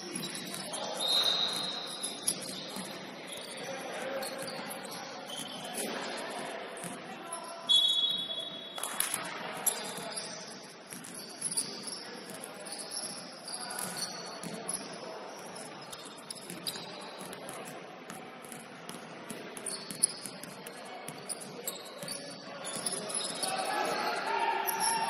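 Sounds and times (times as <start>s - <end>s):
sneakers squeaking on gym floor: 0.0s - 25.0s.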